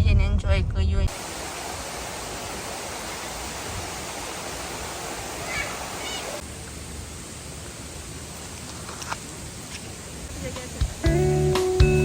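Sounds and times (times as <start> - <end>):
waterfall rushing: 1.1 - 11.8.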